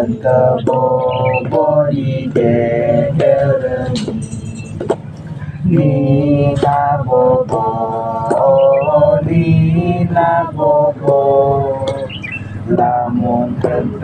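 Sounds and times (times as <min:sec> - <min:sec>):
group singing a lullaby: 0:00.0 - 0:14.0.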